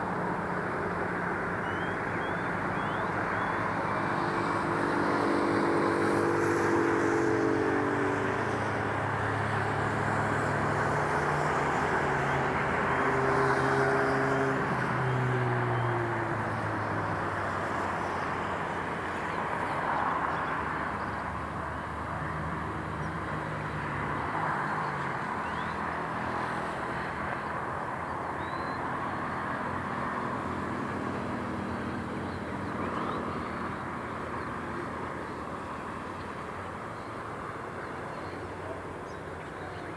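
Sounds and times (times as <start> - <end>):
traffic noise: 0.0 - 39.9
vehicle engine passing by: 3.0 - 27.8, 28.4 - 38.9.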